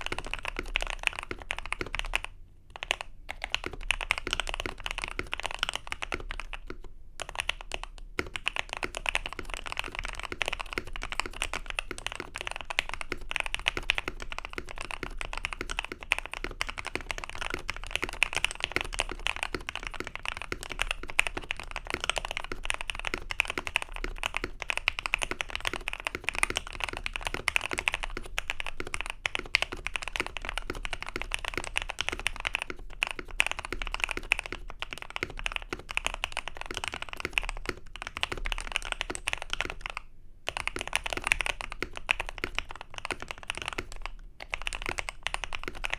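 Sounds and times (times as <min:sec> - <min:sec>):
mechanical keyboard typing: 0:00.0 - 0:45.9.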